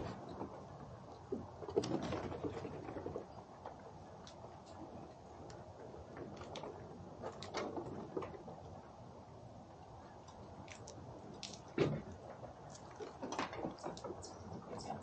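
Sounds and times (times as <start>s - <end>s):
small clicks and ticks: 0.3s - 8.8s, 9.8s - 15.0s.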